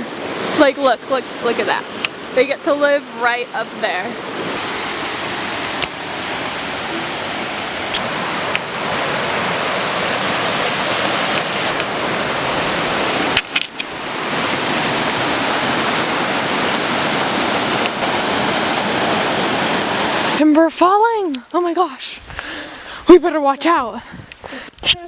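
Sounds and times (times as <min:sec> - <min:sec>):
creek water flowing: 0:00.0 - 0:24.9.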